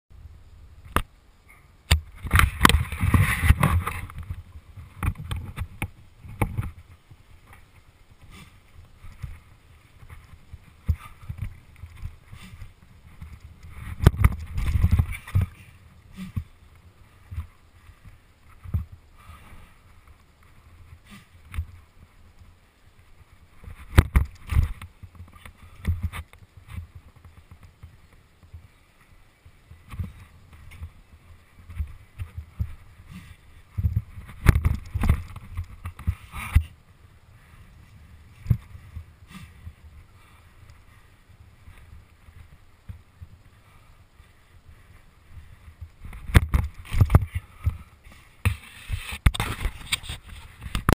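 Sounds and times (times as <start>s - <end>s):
bike tyres rolling on concrete: 2.0s - 50.9s.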